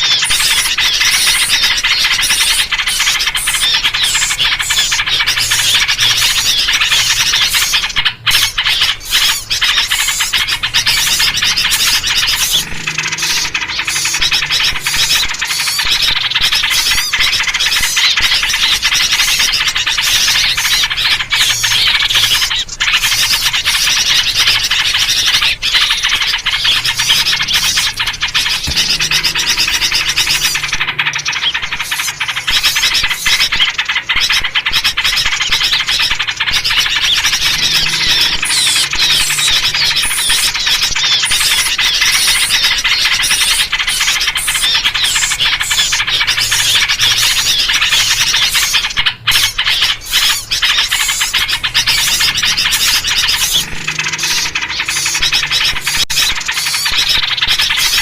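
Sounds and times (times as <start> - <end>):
songbirds chattering: 0.0 - 58.0.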